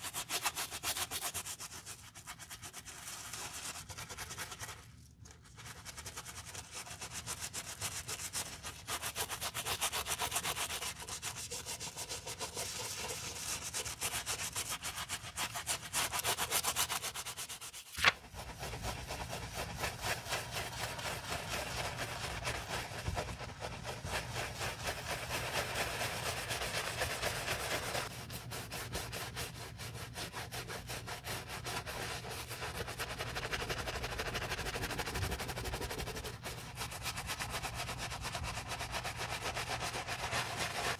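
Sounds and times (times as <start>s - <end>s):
bristle brush scrubbing a shoe: 0.0s - 40.9s.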